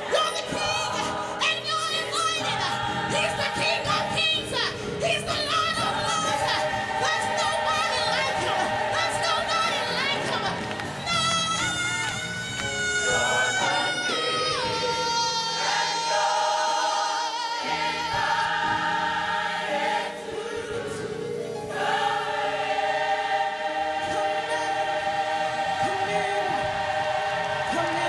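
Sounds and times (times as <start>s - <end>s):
choir singing held chords: 0.0s - 28.0s.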